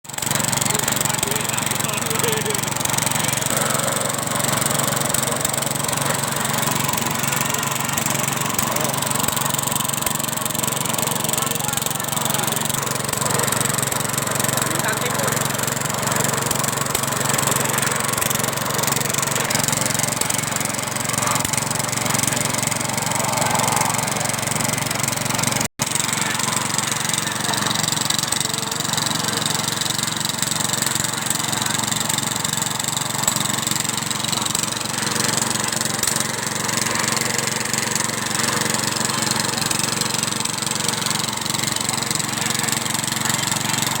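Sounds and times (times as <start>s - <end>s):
small engine running: 0.0s - 44.0s.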